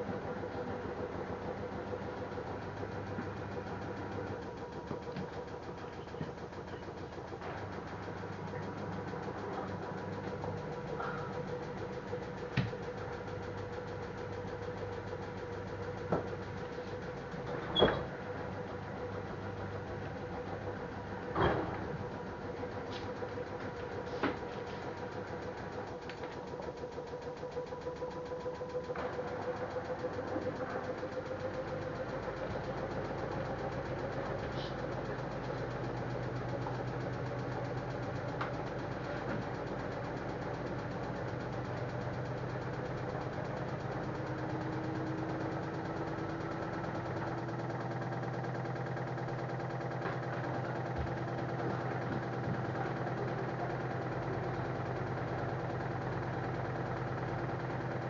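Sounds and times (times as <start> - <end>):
washing machine drum spinning: 0.0 - 58.0.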